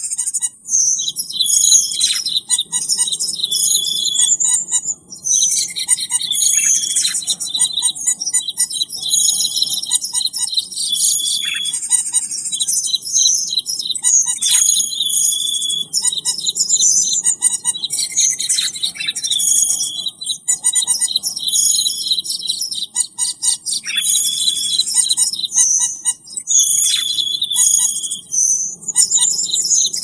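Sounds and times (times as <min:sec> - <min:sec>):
bird chirps and whistles: 0:00.0 - 0:30.0.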